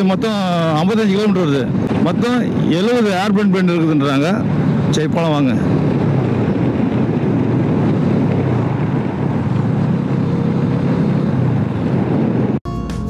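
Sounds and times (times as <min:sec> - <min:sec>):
motorcycle riding: 0:00.0 - 0:12.6
wind on microphone: 0:00.0 - 0:12.6.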